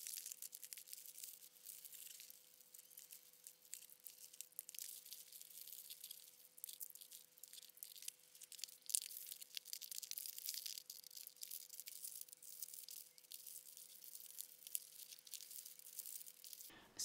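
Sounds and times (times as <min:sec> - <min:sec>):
wrapping paper rustling: 0:00.0 - 0:16.7.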